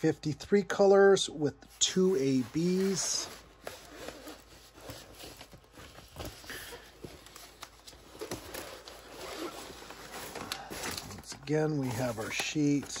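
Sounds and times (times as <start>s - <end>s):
plastic cover crinkling: 1.8s - 13.0s.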